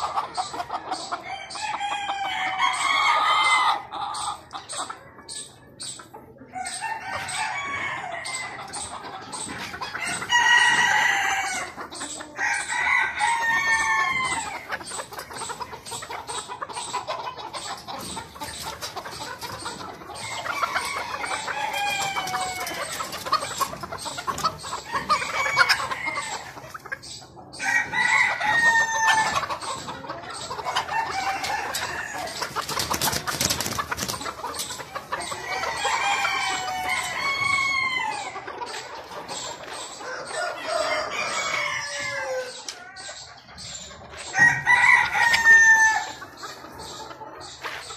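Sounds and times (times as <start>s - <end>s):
roosters crowing: 0.0s - 4.5s, 6.4s - 47.9s
chickens clucking: 0.0s - 47.9s.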